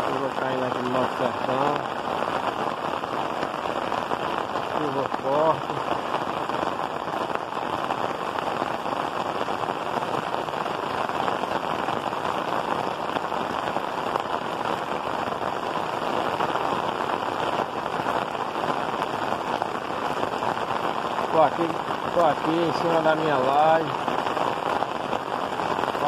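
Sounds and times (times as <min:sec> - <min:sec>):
heavy rain on roof tiles: 0:00.0 - 0:26.0.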